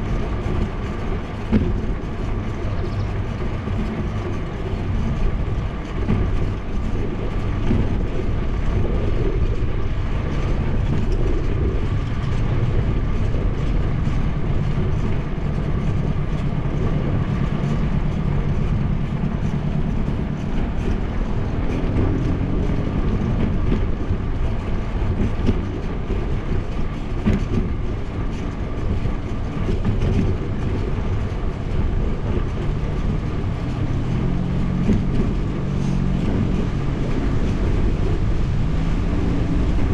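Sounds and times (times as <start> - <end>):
tyre noise on asphalt: 0.0 - 39.9
wind buffeting microphone: 0.0 - 39.9.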